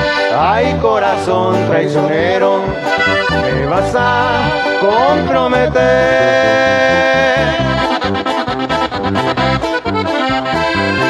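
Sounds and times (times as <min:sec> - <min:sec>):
accordion melody: 0:00.0 - 0:11.0
electric bass line: 0:00.0 - 0:11.0
strummed twelve-string guitar: 0:00.0 - 0:11.0.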